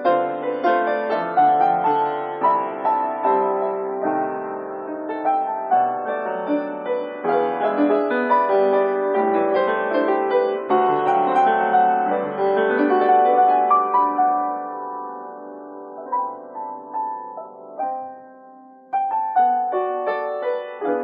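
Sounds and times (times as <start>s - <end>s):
piano melody over chords: 0.0s - 21.0s.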